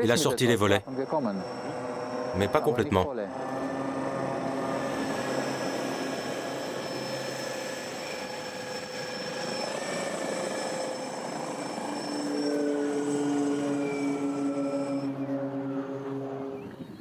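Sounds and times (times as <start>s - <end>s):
electric motor whine: 0.0s - 17.0s
propeller noise: 0.0s - 17.0s.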